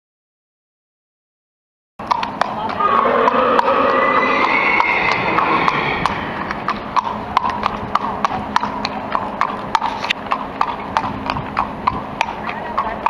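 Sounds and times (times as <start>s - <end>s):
horse hooves clip-clopping on asphalt: 2.0s - 13.0s.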